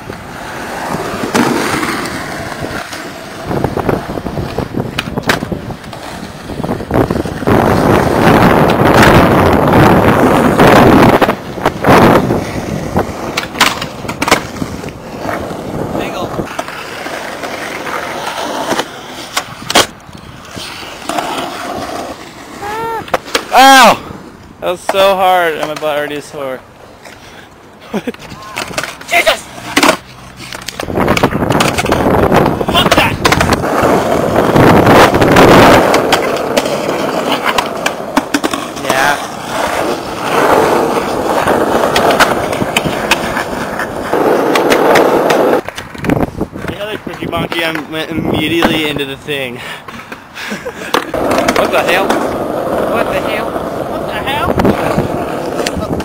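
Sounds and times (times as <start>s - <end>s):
skateboard clacks: 0.0s - 23.8s, 24.8s - 26.0s, 28.1s - 49.0s, 49.8s - 56.0s
skateboard wheels on asphalt: 0.0s - 56.0s.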